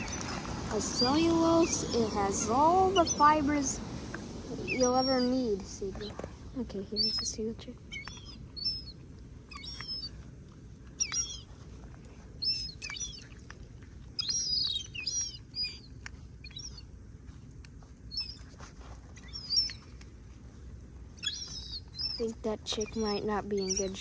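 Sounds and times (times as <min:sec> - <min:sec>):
gull chick peeping: 0:00.0 - 0:11.6, 0:12.4 - 0:16.9, 0:18.1 - 0:20.2, 0:21.1 - 0:24.0.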